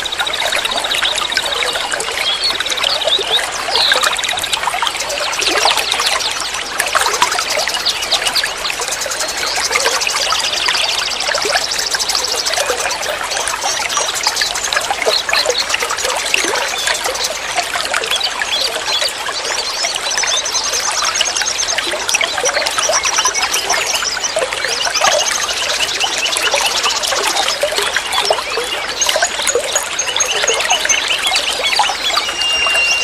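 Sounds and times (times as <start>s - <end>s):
water trickling and gurgling: 0.0s - 33.0s.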